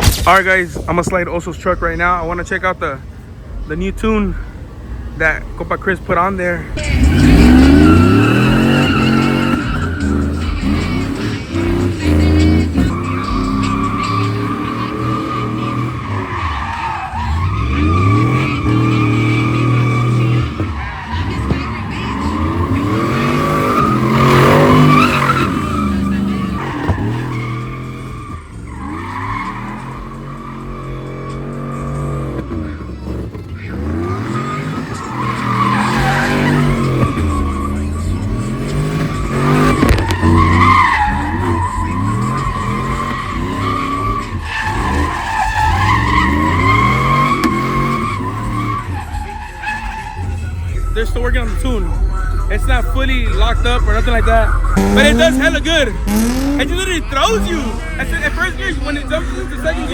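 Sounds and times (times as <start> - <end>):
tires squealing: 0.0 - 59.9
truck engine revving: 4.3 - 50.5, 51.5 - 59.9.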